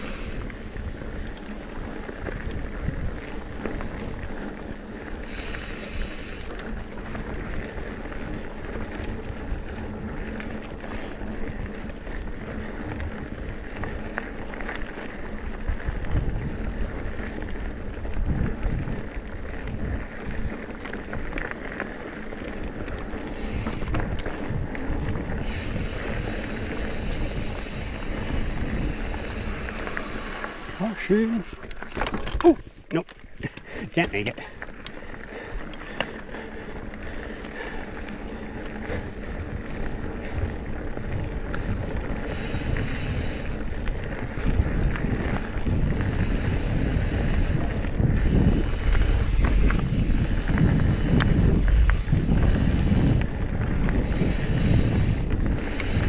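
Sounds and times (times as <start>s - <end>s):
bike clicks and knocks: 0.0s - 4.6s, 13.7s - 40.0s, 41.0s - 56.0s
bike tyres rolling on dirt: 0.0s - 56.0s
wind buffeting microphone: 0.0s - 56.0s.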